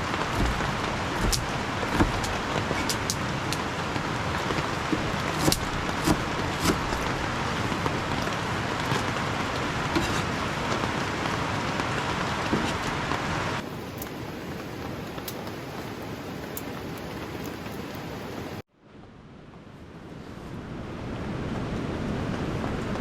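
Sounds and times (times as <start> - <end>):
heavy rain falling: 0.0 - 18.6, 20.8 - 23.0.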